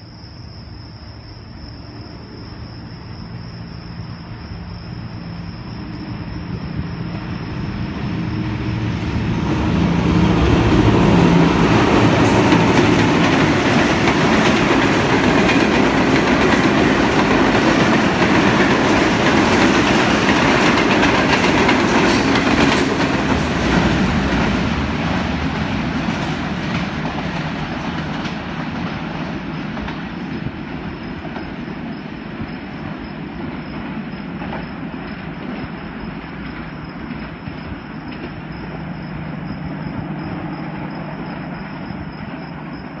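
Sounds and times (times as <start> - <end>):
train rushing away: 1.1 - 43.0.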